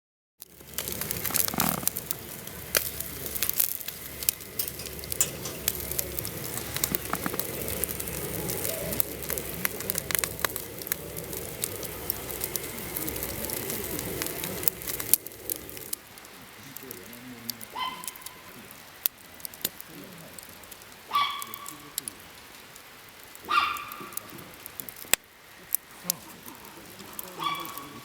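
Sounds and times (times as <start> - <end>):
wood fire crackling and popping: 0.4 - 28.0.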